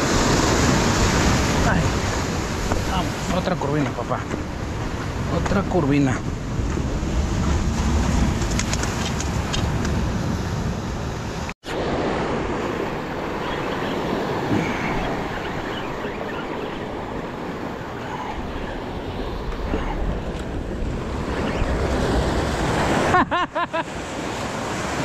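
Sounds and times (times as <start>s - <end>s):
surf washing over rocks: 0.0s - 25.0s.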